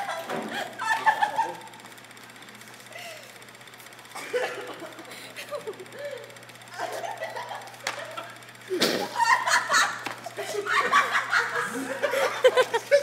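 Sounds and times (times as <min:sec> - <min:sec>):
people laughing: 0:00.0 - 0:01.9, 0:04.2 - 0:13.0.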